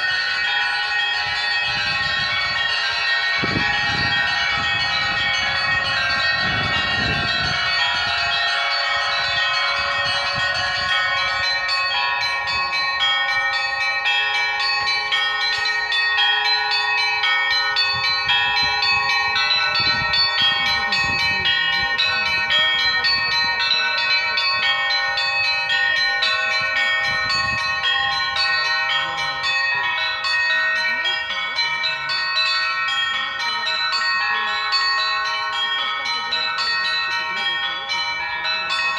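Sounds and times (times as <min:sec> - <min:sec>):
small bells struck rapidly: 0:00.0 - 0:38.9
sustained bell ringing: 0:00.0 - 0:38.9.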